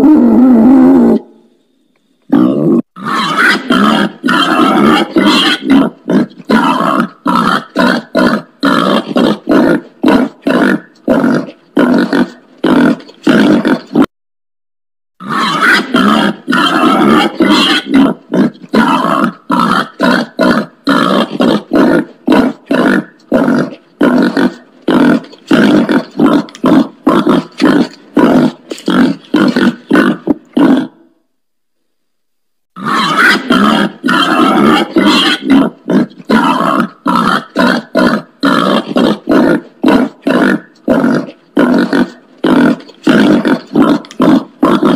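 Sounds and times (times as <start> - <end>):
wild boar grunting: 2.3 - 14.1, 15.2 - 31.1, 32.8 - 44.9.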